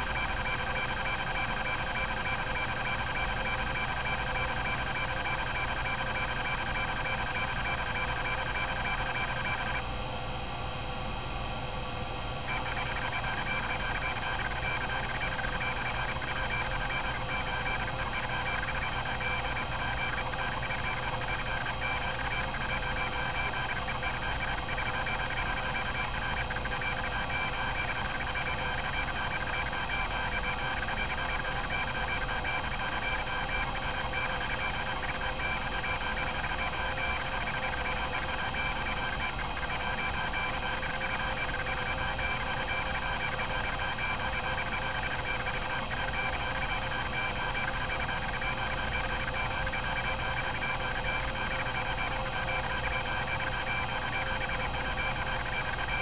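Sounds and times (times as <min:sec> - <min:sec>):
hard drive seeking buzz: 0:00.0 - 0:10.0, 0:12.3 - 0:56.0.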